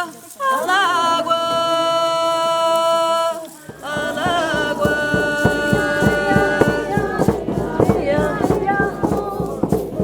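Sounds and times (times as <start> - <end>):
drum beating steady rhythm: 0.0 - 10.0.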